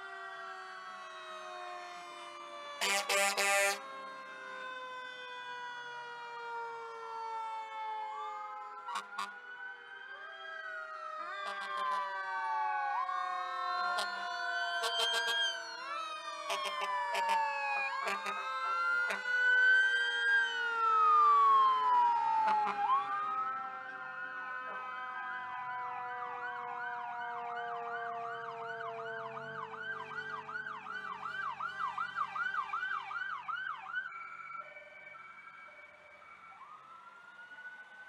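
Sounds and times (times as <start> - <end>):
fast yelp siren: 0.0 - 38.0
wailing sirens: 0.0 - 38.0.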